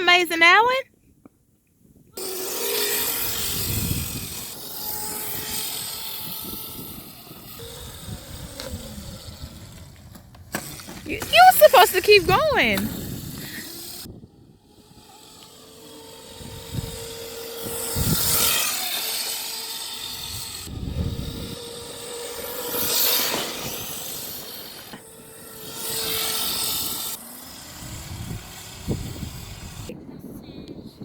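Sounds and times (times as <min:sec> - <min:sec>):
dirt bike motor whine: 0:02.1 - 0:30.0
gritty rush: 0:02.2 - 0:14.1, 0:14.9 - 0:29.9.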